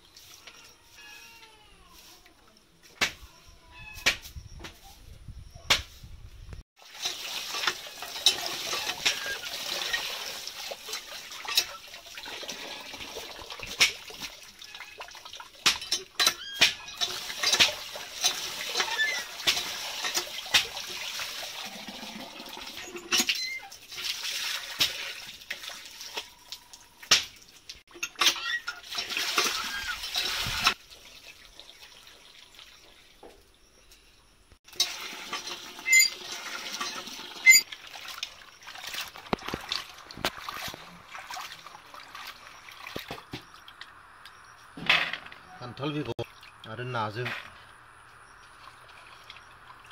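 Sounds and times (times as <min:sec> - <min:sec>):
water splashing and pouring: 0:06.8 - 0:33.6, 0:34.6 - 0:44.0, 0:44.7 - 0:47.7, 0:48.4 - 0:49.9.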